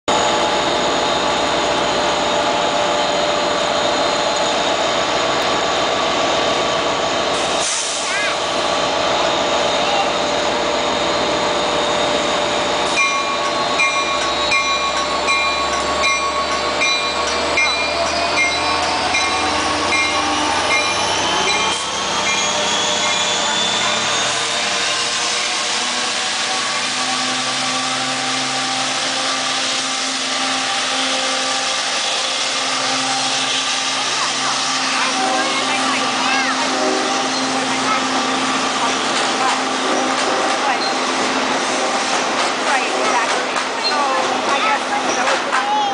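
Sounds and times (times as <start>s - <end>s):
diesel locomotive drone: 0.0s - 45.9s.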